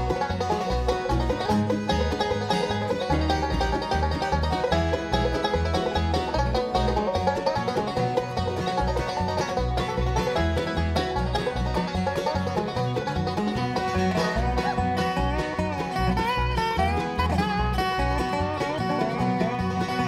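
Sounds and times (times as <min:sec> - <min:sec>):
banjo picking: 0:00.0 - 0:20.0
bluegrass band playing: 0:00.0 - 0:20.0.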